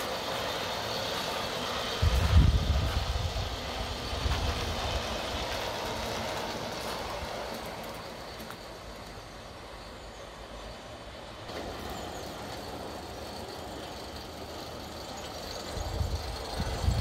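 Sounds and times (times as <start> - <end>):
model steam locomotive running: 0.0 - 17.0.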